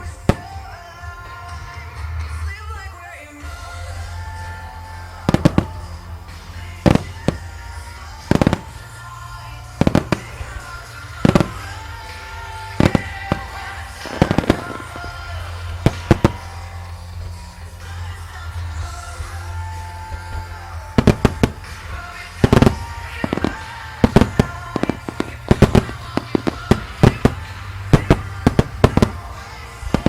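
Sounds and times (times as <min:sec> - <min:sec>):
fireworks bursting in sharp bangs: 0:00.0 - 0:01.7, 0:03.9 - 0:17.8, 0:19.2 - 0:30.0
music playing: 0:00.0 - 0:30.0.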